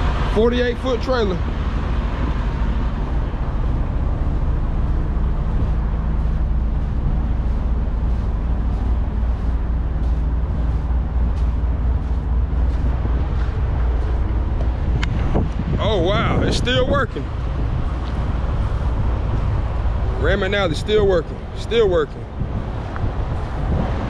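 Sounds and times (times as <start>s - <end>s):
diesel truck engine idling: 0.0s - 24.0s
footsteps crunching on gravel: 1.3s - 24.0s.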